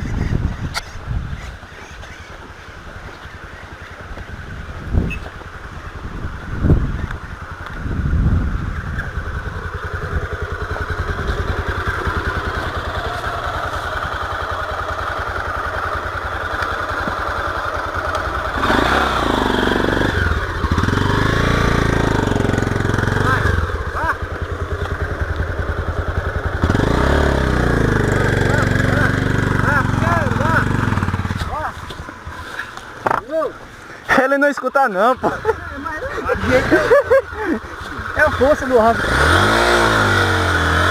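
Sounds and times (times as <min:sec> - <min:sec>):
motorcycle engine revving: 0:01.9 - 0:33.6, 0:35.0 - 0:40.9.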